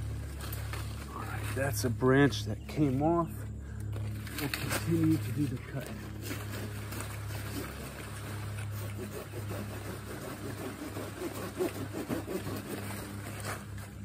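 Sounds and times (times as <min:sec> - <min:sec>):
leaves and branches rustling: 0:00.0 - 0:14.0
low engine-like hum: 0:00.0 - 0:14.0.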